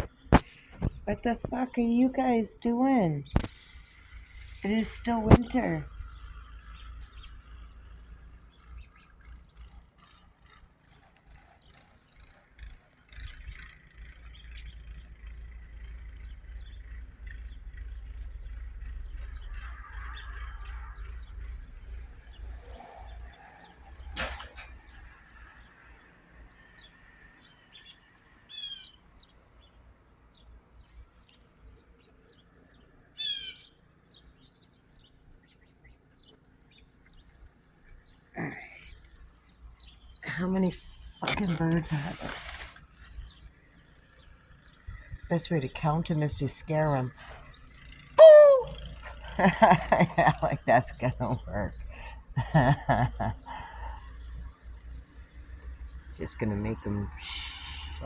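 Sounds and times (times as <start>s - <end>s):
robins chirping: 11.3s - 58.0s.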